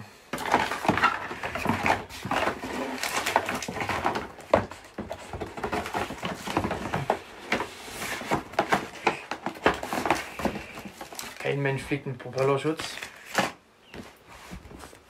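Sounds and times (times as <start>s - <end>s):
cardboard packaging rustling: 0.3s - 15.0s.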